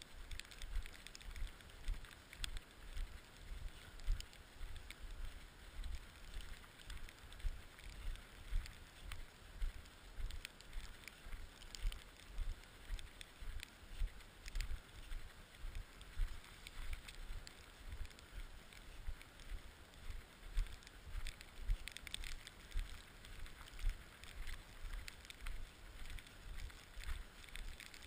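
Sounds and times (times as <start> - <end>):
light clicks: 0.2 - 28.0.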